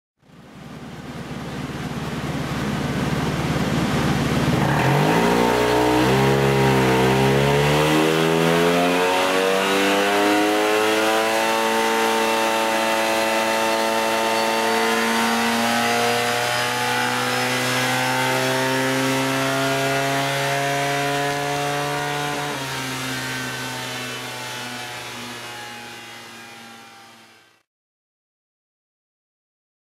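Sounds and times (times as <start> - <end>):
scooter engine revving: 0.8 - 27.2.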